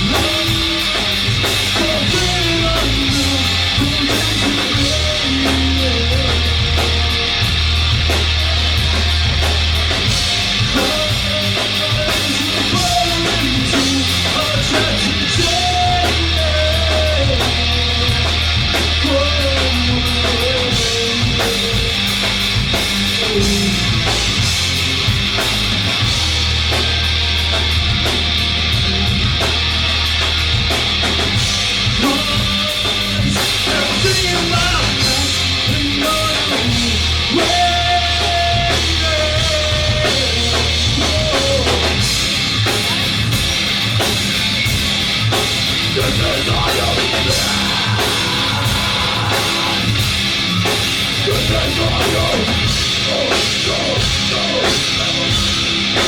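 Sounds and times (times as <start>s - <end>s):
drum kit fast beat: 0.0s - 56.0s
live rock band playing: 0.0s - 56.0s
low bass notes: 0.0s - 56.0s.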